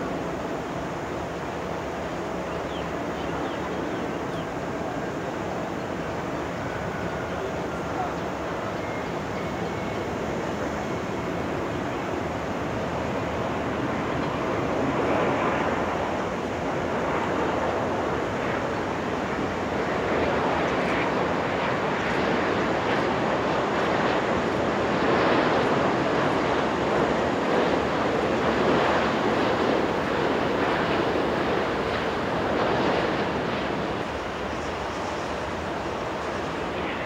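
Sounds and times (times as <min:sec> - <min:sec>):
jet engines rushing: 0:00.0 - 0:37.0.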